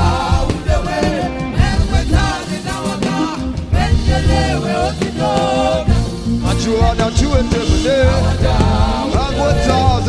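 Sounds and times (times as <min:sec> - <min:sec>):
band with bass and drums: 0:00.0 - 0:10.0
person singing: 0:00.0 - 0:10.0.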